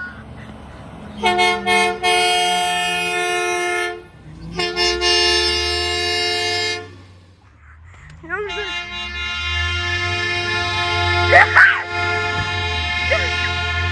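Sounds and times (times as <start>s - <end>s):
truck horn blasts: 1.1s - 7.3s, 8.4s - 13.9s.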